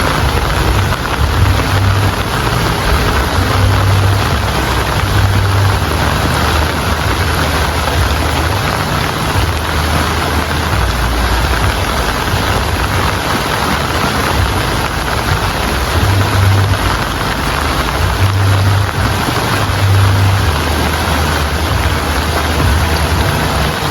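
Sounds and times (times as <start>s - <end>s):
heavy rain falling: 0.0s - 23.9s
low rumble: 0.0s - 23.9s.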